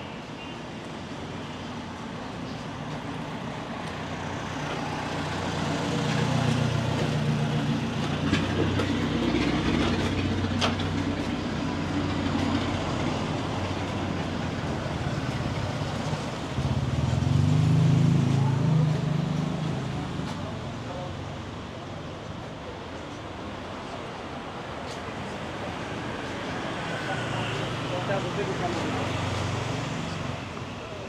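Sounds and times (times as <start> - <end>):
street noise: 0.0 - 31.0.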